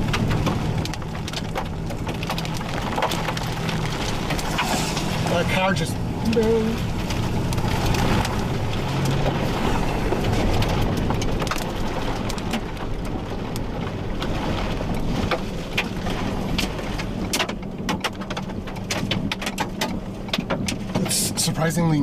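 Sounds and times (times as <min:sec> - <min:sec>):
car engine hum: 0:00.0 - 0:22.0
raindrops tapping on car: 0:00.0 - 0:22.0.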